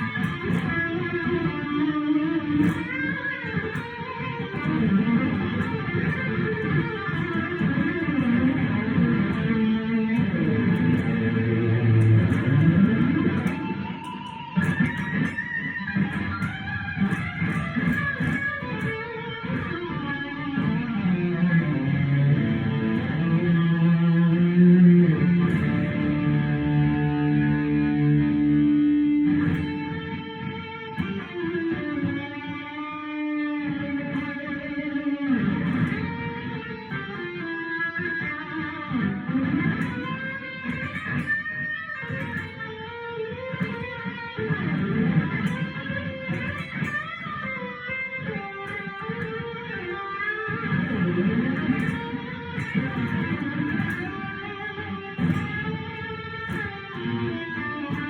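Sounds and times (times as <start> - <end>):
electric guitar melody: 0.0 - 58.0.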